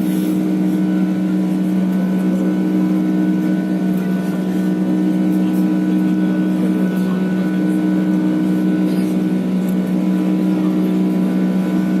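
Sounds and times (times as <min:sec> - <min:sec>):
airliner engine drone in cabin: 0:00.0 - 0:12.0.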